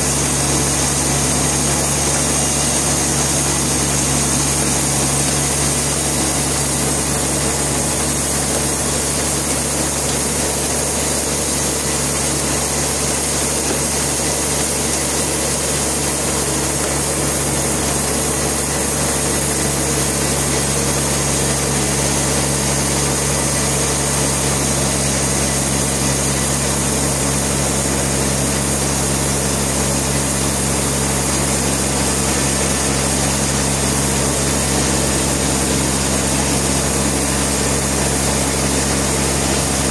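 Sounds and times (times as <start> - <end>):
sawmill machinery hum and hiss: 0.0 - 39.9.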